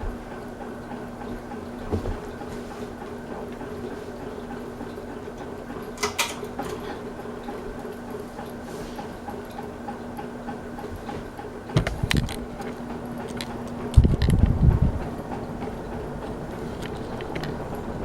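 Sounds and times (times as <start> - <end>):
ceiling fan motor hum: 0.0 - 18.0.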